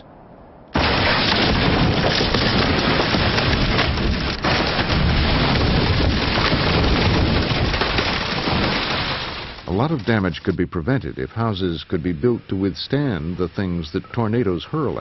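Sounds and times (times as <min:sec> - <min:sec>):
loud continuous crackling: 0:00.7 - 0:15.0.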